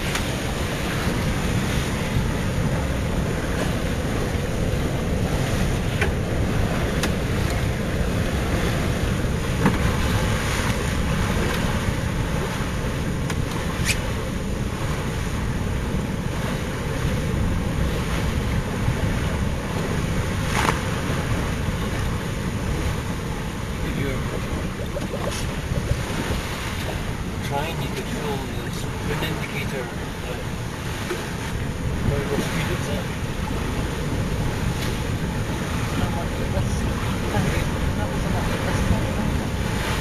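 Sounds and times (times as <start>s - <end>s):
water rushing along yacht: 0.0s - 40.0s
wind buffeting microphone: 0.0s - 40.0s.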